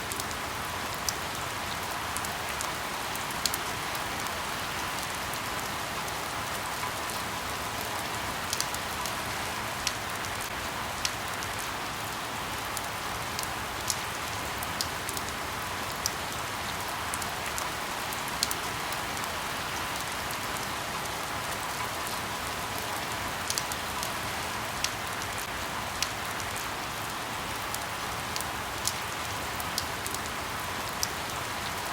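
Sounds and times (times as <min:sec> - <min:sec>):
rain falling on leaves: 0:00.0 - 0:31.9.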